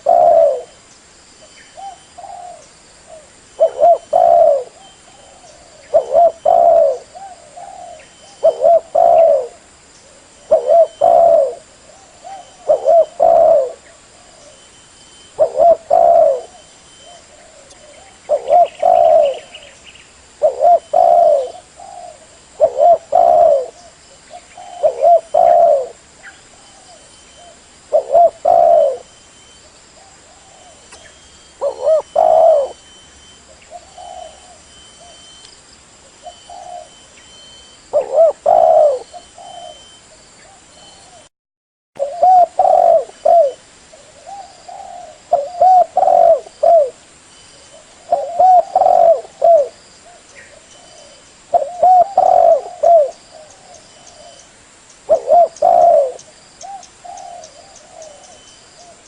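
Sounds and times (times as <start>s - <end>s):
doves cooing: 0.0s - 0.8s, 1.8s - 19.8s, 20.4s - 35.4s, 36.1s - 41.3s, 42.0s - 47.0s, 47.6s - 54.5s, 55.1s - 59.0s.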